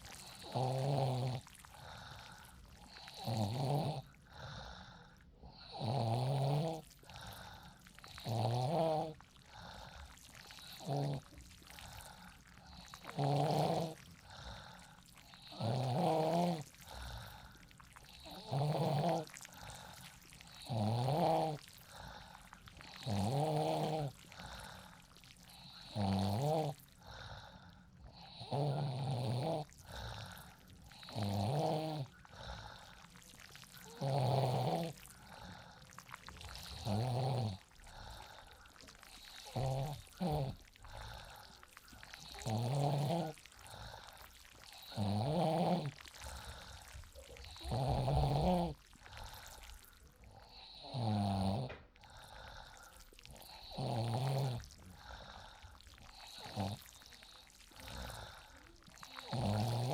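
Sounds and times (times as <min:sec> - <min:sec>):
person snoring: 0:00.0 - 0:59.9.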